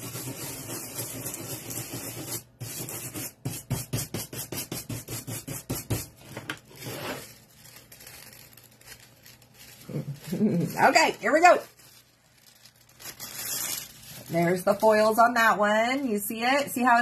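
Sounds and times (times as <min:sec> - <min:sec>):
foil sheet rubbed on wood: 0:00.0 - 0:15.4.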